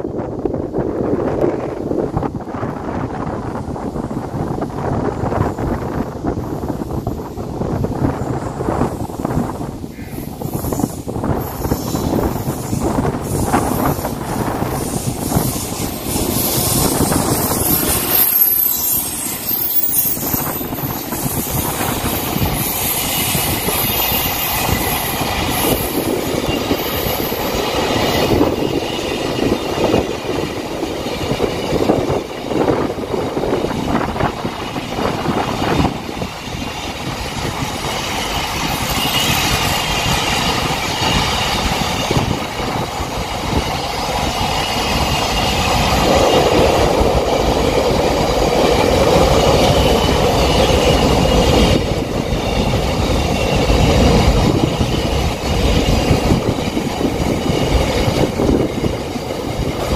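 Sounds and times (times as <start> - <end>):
freight train rumbling over rails: 0.0 - 59.9.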